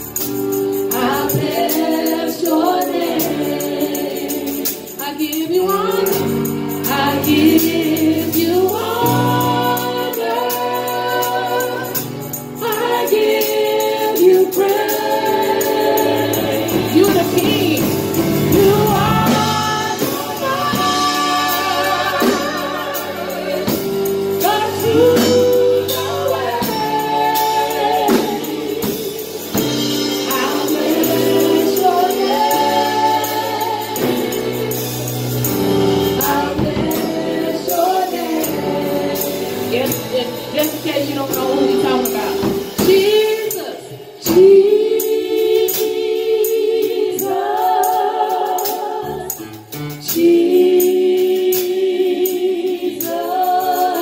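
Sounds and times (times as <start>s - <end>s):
drum kit: 0.0s - 54.0s
electric keyboard: 0.0s - 54.0s
women singing gospel: 0.0s - 54.0s.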